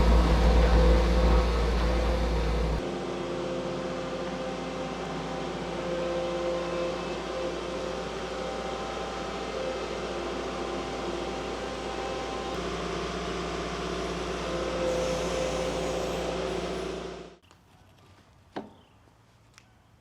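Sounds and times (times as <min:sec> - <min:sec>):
engine running steadily: 0:00.0 - 0:17.4.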